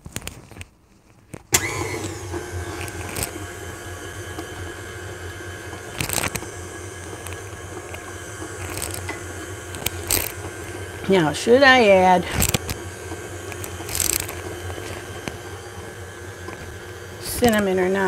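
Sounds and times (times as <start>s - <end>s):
stand mixer running: 1.5s - 18.0s.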